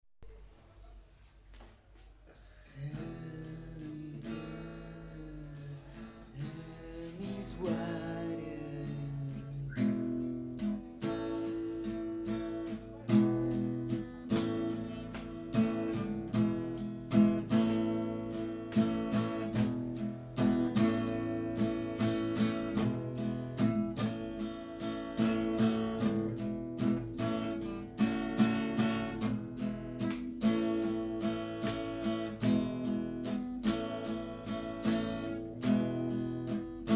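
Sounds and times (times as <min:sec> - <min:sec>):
acoustic guitar playing: 0:02.8 - 0:36.9.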